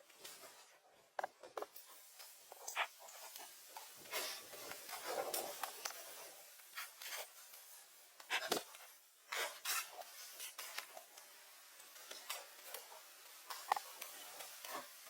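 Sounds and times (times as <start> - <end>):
scraping and rubbing strokes: 1.8 - 15.0.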